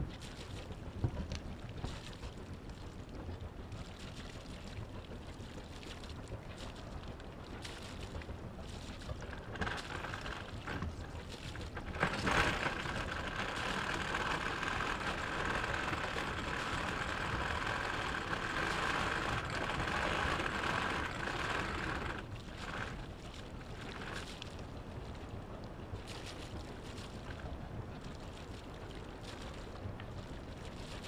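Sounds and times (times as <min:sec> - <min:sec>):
water rushing along boat hull: 0:00.0 - 0:31.0.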